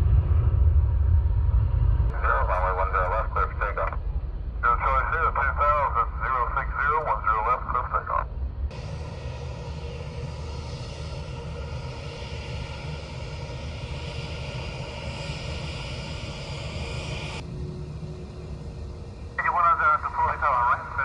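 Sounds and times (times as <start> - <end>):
low engine rumble: 0.0 - 21.0
jet engines rushing hiss: 1.8 - 21.0.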